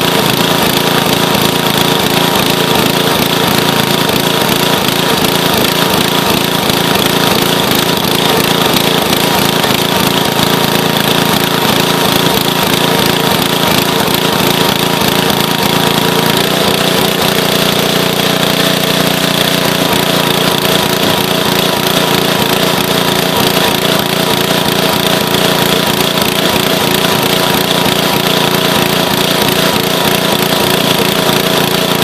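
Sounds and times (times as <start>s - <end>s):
small petrol engine running: 0.0s - 32.0s.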